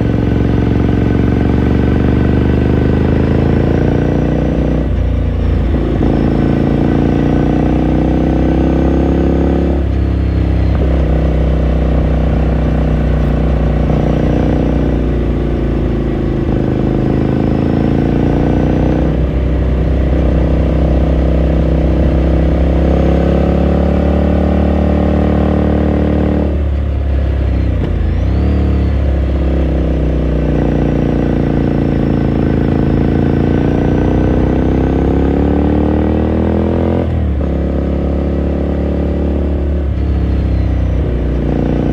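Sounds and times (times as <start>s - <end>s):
motorcycle accelerating through gears: 0.0s - 41.9s.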